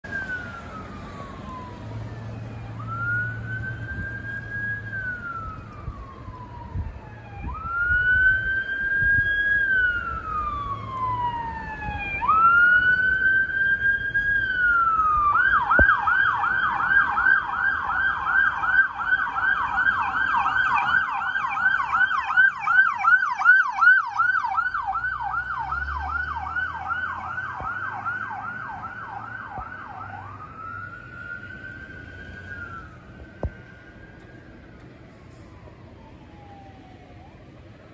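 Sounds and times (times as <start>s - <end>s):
ambulance siren: 0.0s - 37.9s.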